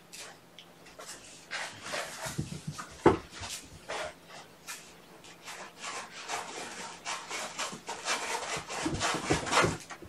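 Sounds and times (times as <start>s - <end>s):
kitten scratching in litter: 0.1s - 10.0s.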